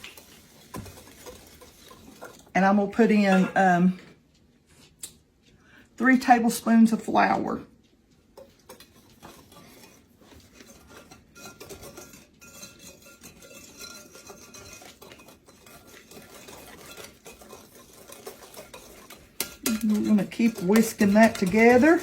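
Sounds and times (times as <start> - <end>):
whisk scraping and clinking in bowl: 0.0 - 4.0, 8.3 - 22.0.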